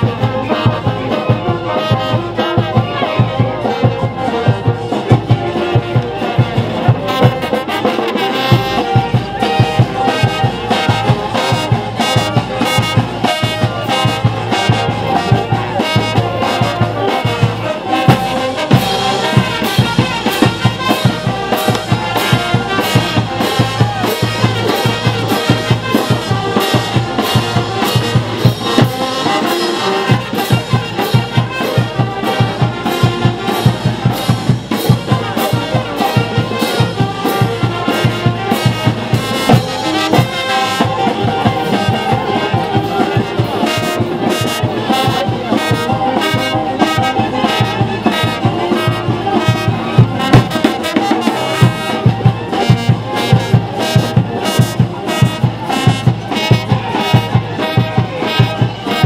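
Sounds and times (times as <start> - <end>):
brass band playing dance music: 0.0 - 59.0.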